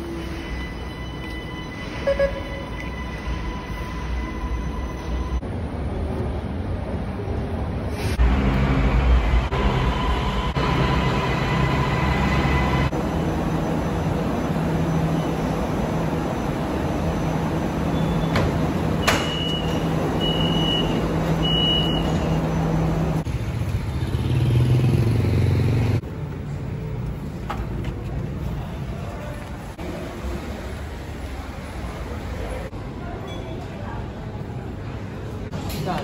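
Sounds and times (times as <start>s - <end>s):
train low hum: 0.0s - 24.4s, 25.7s - 36.0s.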